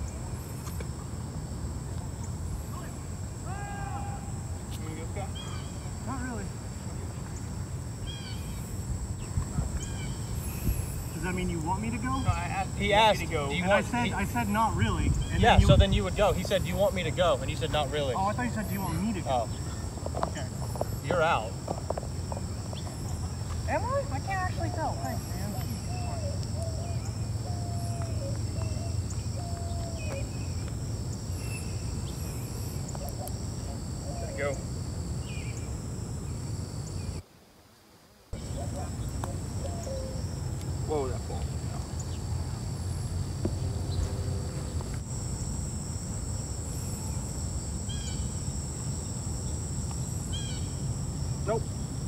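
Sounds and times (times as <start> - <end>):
insect chorus buzzing: 0.0 - 52.0.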